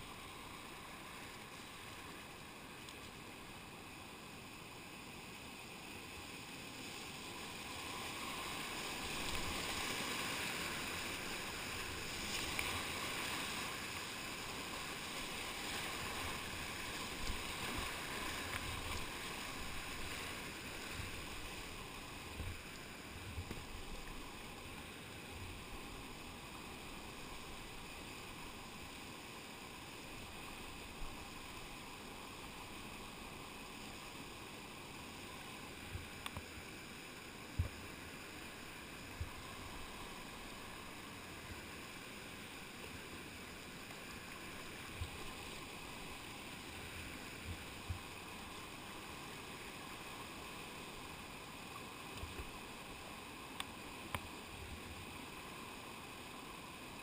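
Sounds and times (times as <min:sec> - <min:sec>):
whitewater rushing over boulders: 0:00.0 - 0:57.0.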